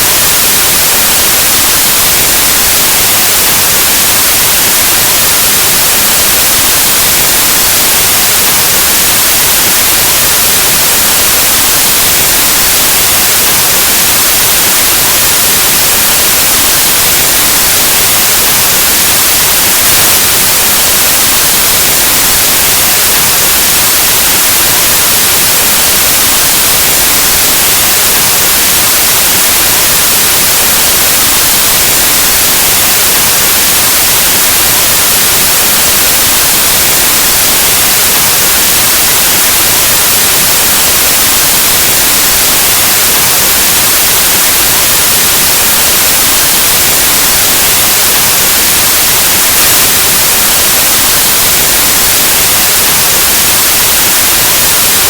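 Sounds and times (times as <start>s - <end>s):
loud white noise hiss: 0.0s - 55.0s.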